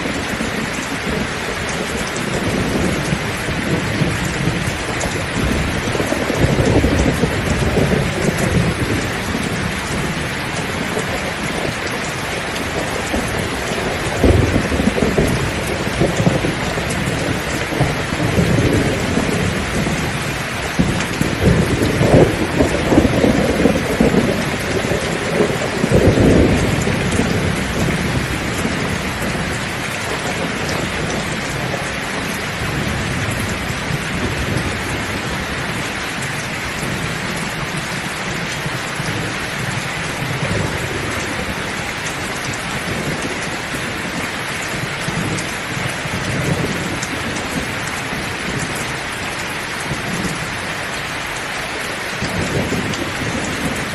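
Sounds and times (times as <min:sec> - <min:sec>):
heavy rain pouring: 0:00.0 - 0:53.9
thunder rumbling: 0:00.0 - 0:53.9.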